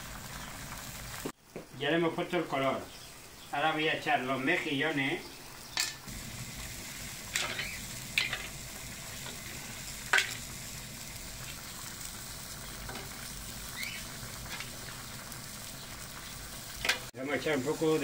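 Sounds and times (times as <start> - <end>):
paella sizzling in a pan: 0.0 - 18.0.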